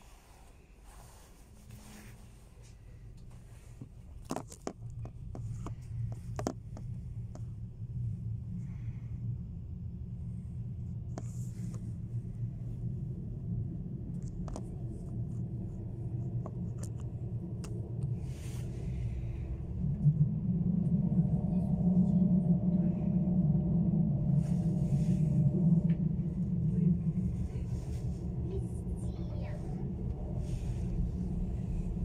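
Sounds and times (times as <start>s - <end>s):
train wheels rumbling: 0.0s - 32.0s
multi-tone hum: 0.3s - 32.0s.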